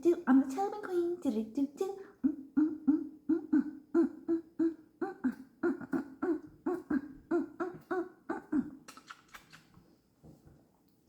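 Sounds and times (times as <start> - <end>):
woman chanting sing-song syllables: 0.0 - 8.9.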